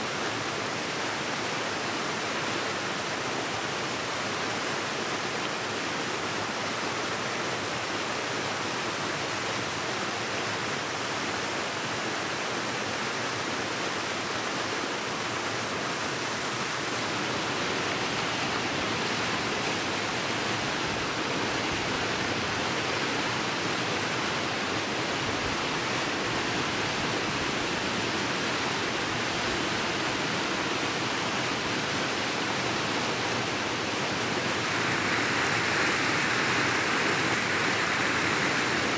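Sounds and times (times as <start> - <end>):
waterfall and rapids rushing: 0.0 - 38.9.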